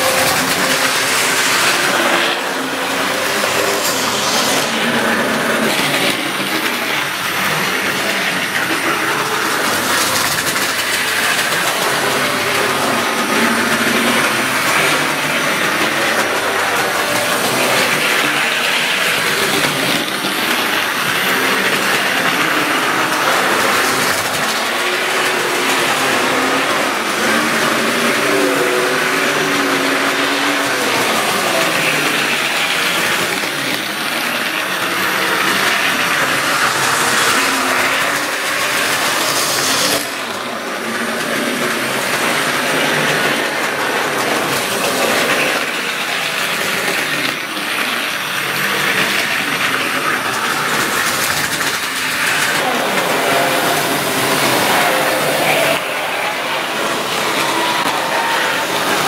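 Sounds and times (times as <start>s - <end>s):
model trains whirring and rattling: 0.0s - 59.0s.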